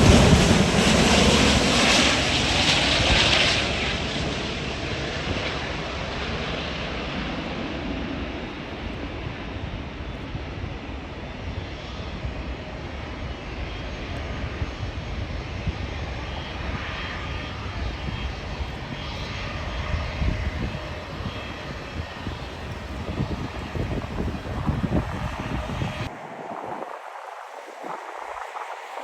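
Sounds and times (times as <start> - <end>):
jet airliner engines rushing: 0.0 - 29.0.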